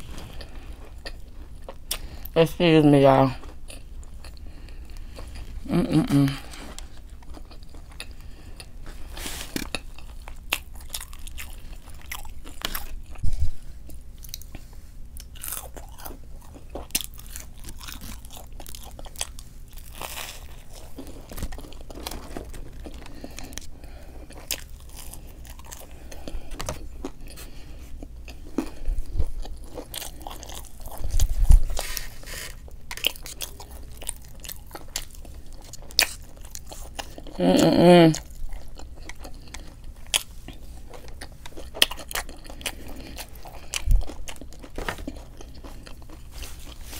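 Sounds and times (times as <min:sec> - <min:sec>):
crunchy biting and chewing: 0:03.5 - 0:46.9.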